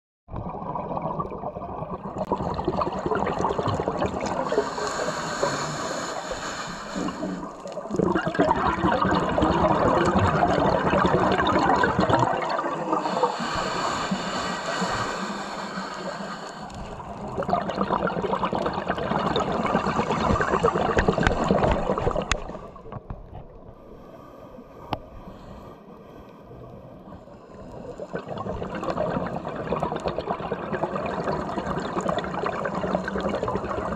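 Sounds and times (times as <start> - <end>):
underwater regulator exhaust bubbles: 0.3 - 23.6, 27.6 - 33.9.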